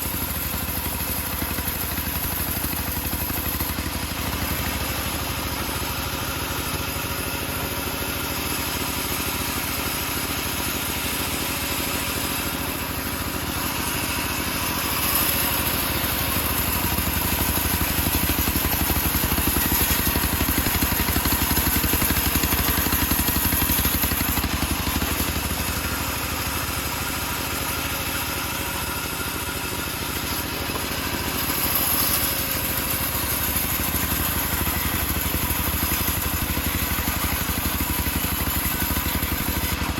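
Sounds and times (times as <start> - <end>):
bandsaw sawmill cutting a log: 0.0 - 39.9.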